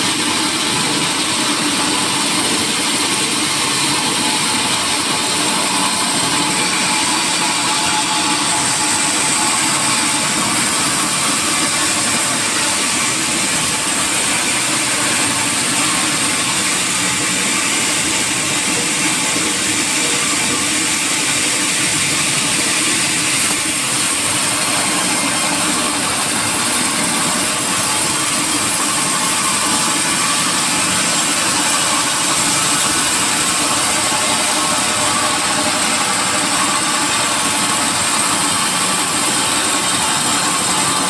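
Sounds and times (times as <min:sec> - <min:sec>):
sawmill machinery running: 0:00.0 - 0:41.0.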